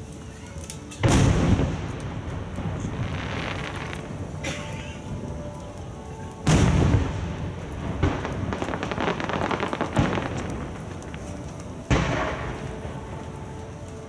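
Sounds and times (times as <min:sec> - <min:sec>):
fireworks crackling: 0:00.0 - 0:14.0
fireworks booming: 0:01.0 - 0:14.0.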